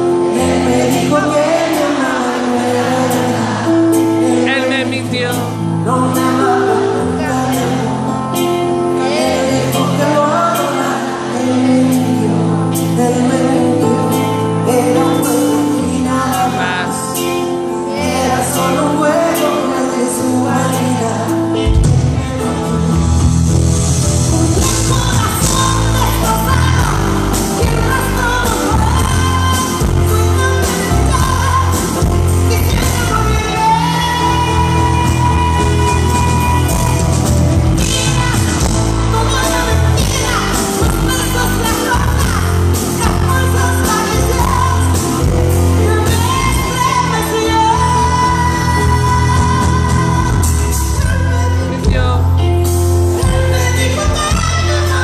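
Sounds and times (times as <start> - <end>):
live band playing: 0.0 - 55.0
woman singing a ballad: 0.3 - 22.5, 24.2 - 55.0.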